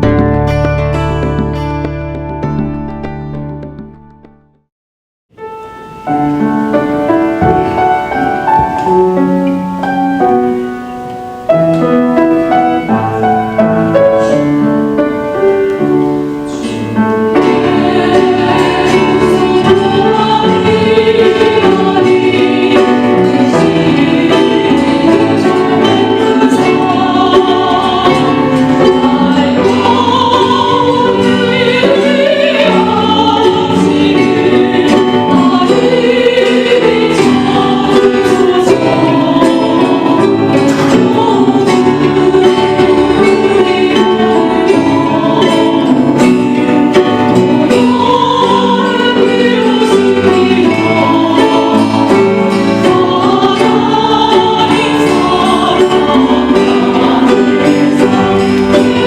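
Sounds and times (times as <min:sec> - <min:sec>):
ukulele and guitar: 0:00.0 - 0:04.2, 0:05.8 - 0:59.0
vocal ensemble singing: 0:06.1 - 0:59.0.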